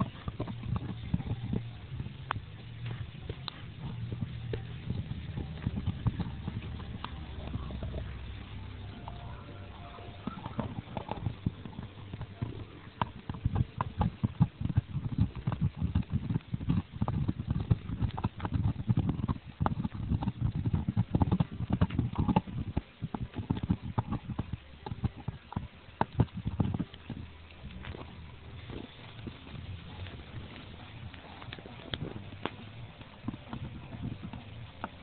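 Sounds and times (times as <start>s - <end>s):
dog gnawing a bone: 0.0s - 35.0s.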